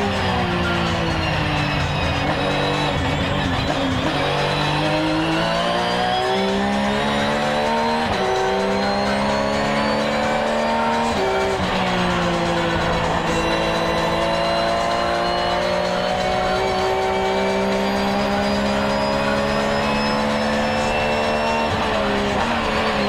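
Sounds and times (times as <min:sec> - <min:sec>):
car engine accelerating: 0:00.0 - 0:23.0
tyre and road noise: 0:00.0 - 0:23.0.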